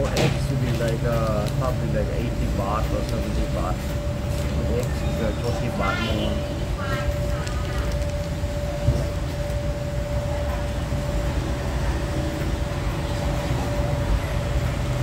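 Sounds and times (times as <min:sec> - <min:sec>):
street traffic rumbling: 0:00.0 - 0:15.0.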